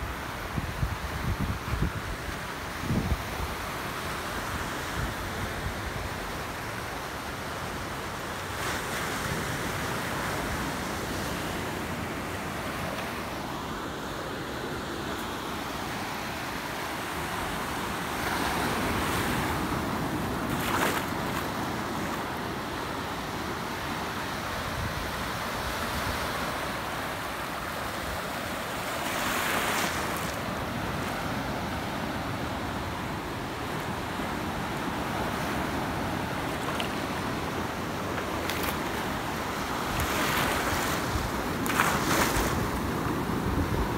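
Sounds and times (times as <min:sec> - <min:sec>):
waves breaking on beach: 0:00.0 - 0:43.9.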